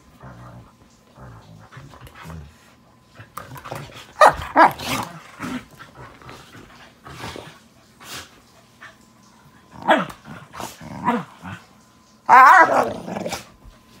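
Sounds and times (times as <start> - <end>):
dogs growling and barking: 0.0 - 8.3, 9.6 - 13.7.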